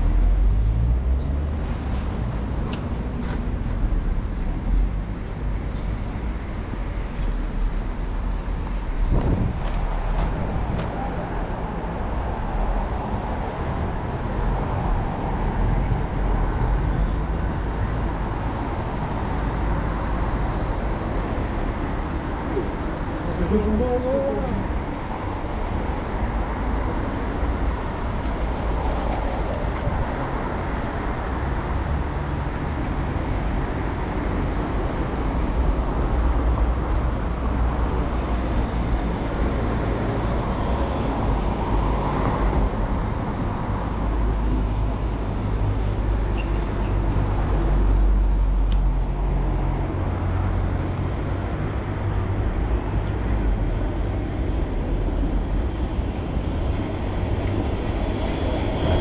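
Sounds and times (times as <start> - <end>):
cars passing: 0.0 - 59.0
low traffic rumble: 0.0 - 59.0.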